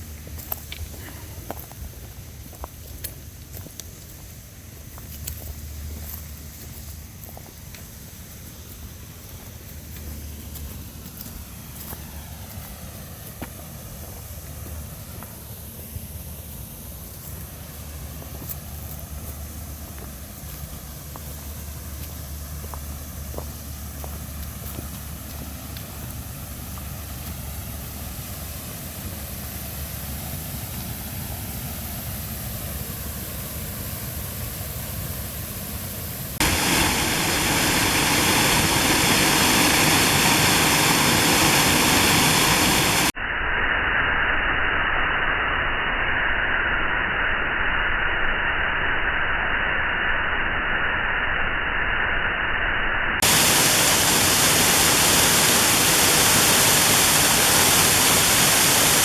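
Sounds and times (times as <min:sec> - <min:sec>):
small waterfall rushing: 0:00.0 - 0:43.2, 0:53.2 - 0:59.0.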